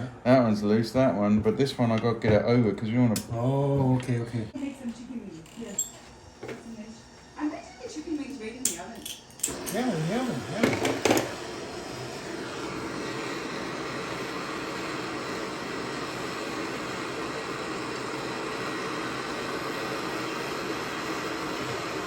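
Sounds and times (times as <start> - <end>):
fan or blower running: 0.0 - 22.0.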